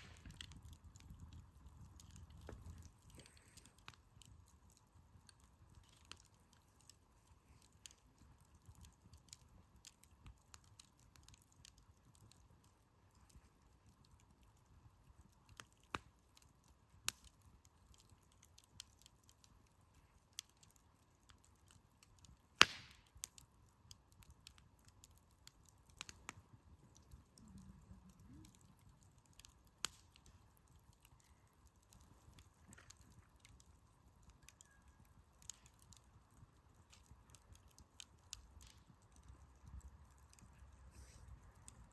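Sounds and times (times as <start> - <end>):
campfire crackling: 0.0 - 41.9
fire snapping and popping: 0.0 - 41.9.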